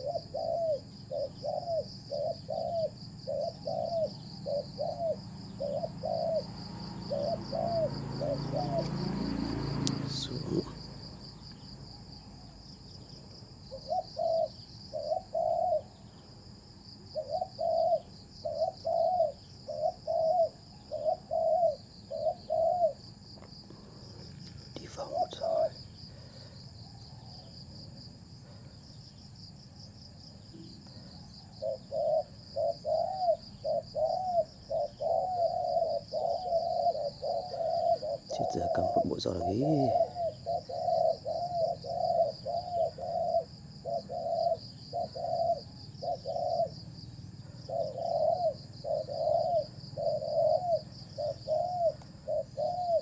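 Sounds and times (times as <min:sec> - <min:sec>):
dove cooing: 0:00.0 - 0:53.0
high pulsing insect trill: 0:00.0 - 0:53.0.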